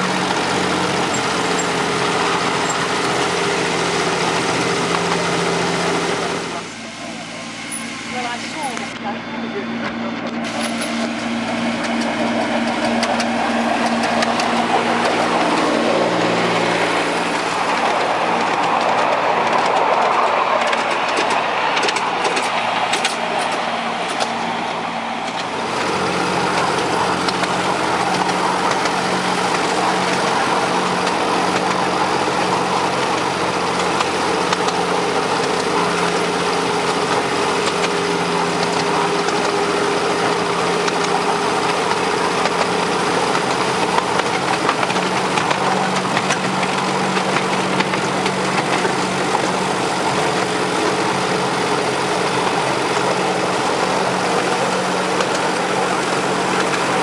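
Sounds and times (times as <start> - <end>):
miniature locomotive engine running: 0.0 - 9.2, 10.3 - 57.0.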